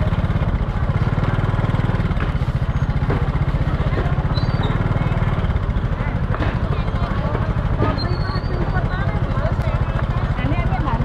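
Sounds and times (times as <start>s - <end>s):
faint market chatter: 0.0s - 11.0s
small engine chugging: 0.0s - 11.0s.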